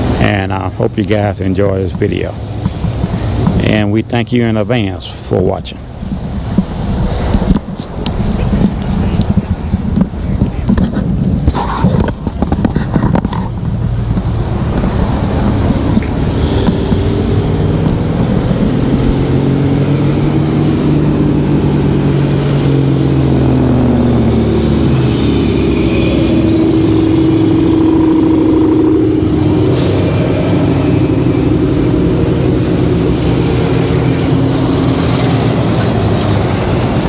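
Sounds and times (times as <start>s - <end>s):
car engine running: 5.7s - 37.0s.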